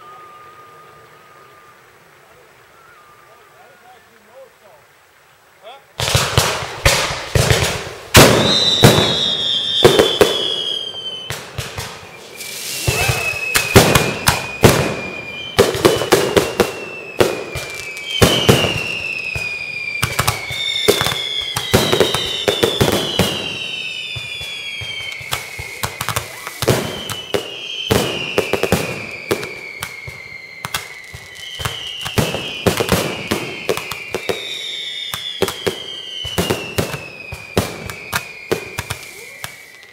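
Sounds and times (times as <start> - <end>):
whistling firework shells: 0.0 - 2.0, 6.0 - 39.9
firework bangs and crackle: 6.0 - 39.9.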